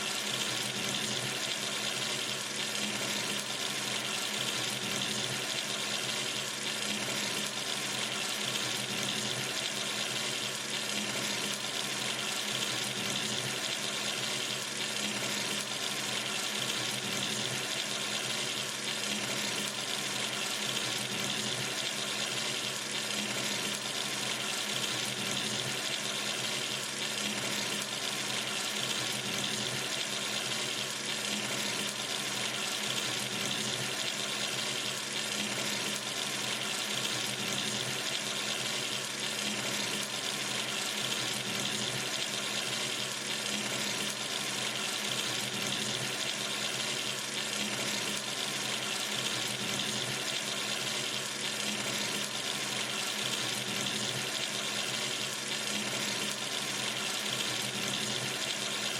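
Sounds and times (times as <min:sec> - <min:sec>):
tap water running into sink: 0:00.0 - 0:58.9.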